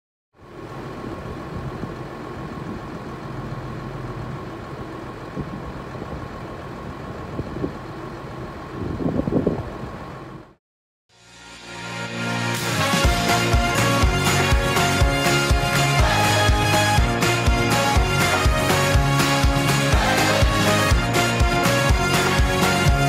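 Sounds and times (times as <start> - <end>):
tractor diesel engines idling: 0.4 - 10.6, 12.7 - 23.0.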